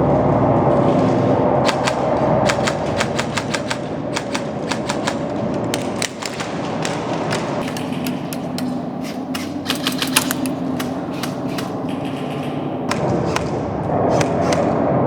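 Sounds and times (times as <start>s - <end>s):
low rumble: 0.0s - 15.0s
airsoft guns firing: 1.6s - 15.0s.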